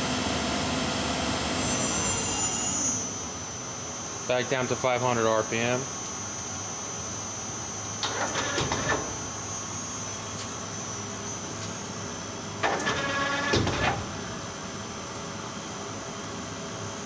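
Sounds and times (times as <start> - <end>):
steady machine hum: 0.0 - 17.0
lathe turret motor whine: 0.1 - 4.3, 5.5 - 17.0.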